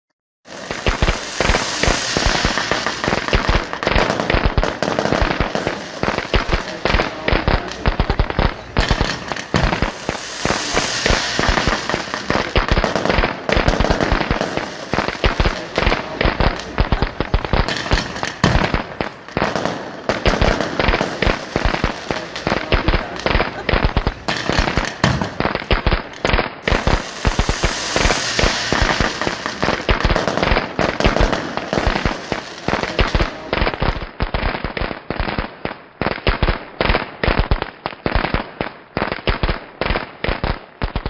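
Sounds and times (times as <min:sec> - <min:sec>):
fireworks hissing: 0:00.5 - 0:34.1
fireworks bangs and crackling: 0:00.5 - 0:41.0.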